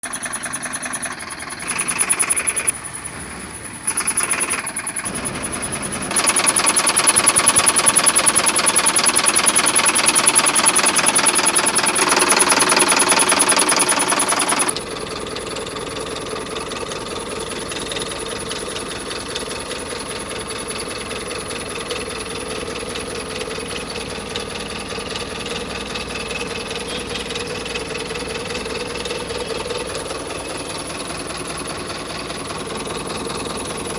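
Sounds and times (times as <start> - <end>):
diesel truck engine clattering: 0.0 - 33.9.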